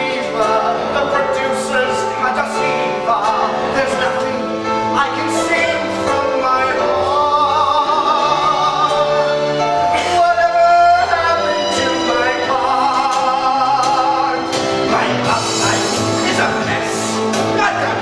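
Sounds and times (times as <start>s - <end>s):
instrumental backing music: 0.0s - 18.0s
man singing operatic show tune: 0.0s - 18.0s.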